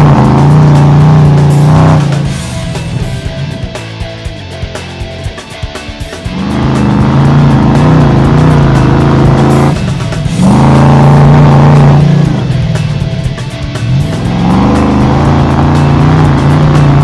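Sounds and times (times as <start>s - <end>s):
rock background music: 0.0s - 17.0s
vehicle engine revving: 0.0s - 17.0s.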